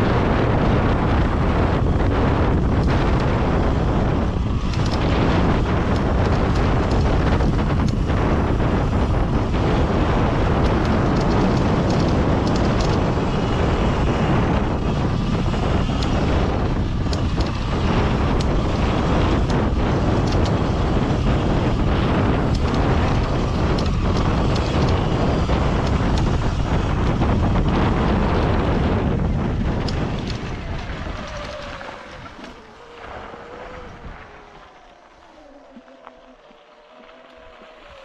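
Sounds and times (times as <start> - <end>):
tyres rumbling on rocky trail: 0.0 - 38.0
wind buffeting microphone: 0.0 - 38.0.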